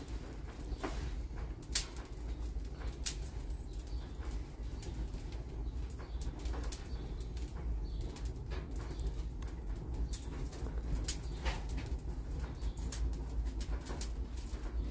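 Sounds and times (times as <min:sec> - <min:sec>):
wood fire crackling and popping: 0:00.0 - 0:14.9.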